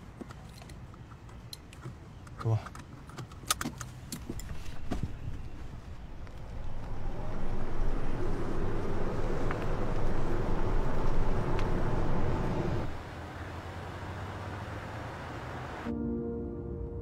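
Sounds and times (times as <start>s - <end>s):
car engine and tyre noise: 0.0s - 15.9s.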